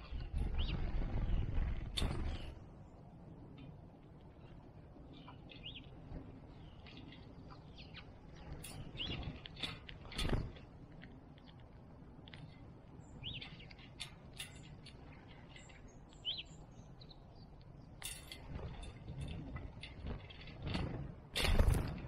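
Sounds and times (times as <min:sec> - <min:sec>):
faint low outdoor rumble: 0:00.0 - 0:22.0
small birds chirping: 0:00.0 - 0:22.0.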